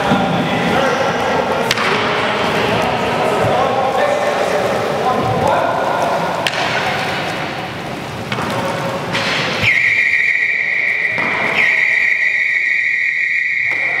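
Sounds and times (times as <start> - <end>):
hall background noise: 0.0 - 14.0.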